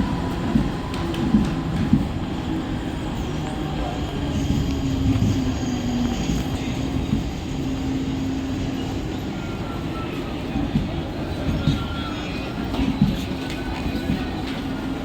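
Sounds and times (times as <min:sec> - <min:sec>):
train rumbling with droning hum: 0:00.0 - 0:15.0.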